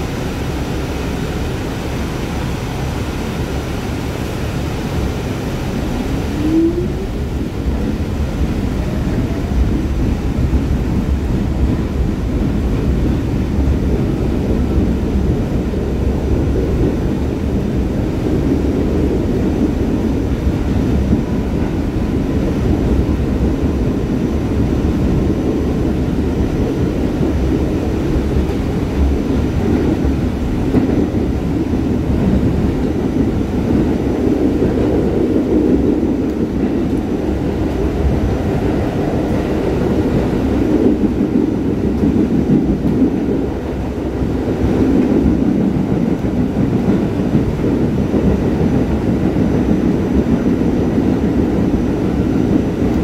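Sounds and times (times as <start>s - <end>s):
subway car wheels rumbling: 0.0s - 53.0s.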